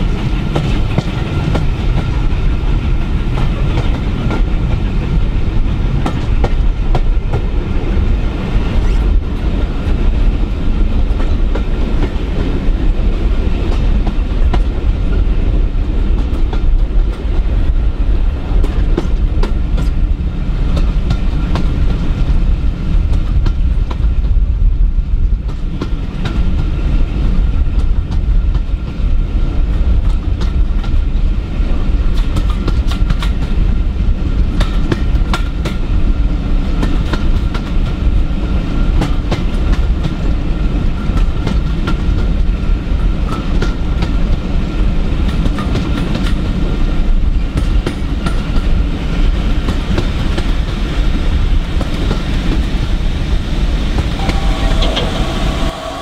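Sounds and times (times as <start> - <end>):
train carriages rumbling: 0.0 - 56.0.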